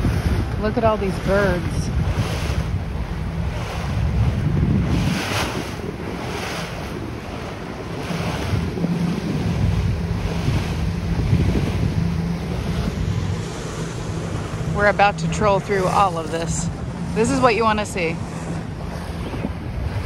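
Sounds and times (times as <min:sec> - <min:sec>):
boat engine droning: 0:00.0 - 0:20.0
sea water washing: 0:00.0 - 0:20.0
wind buffeting microphone: 0:00.0 - 0:20.0.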